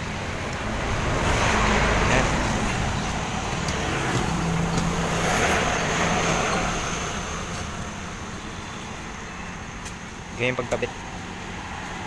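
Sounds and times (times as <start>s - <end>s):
vehicle passing: 0.0s - 9.8s.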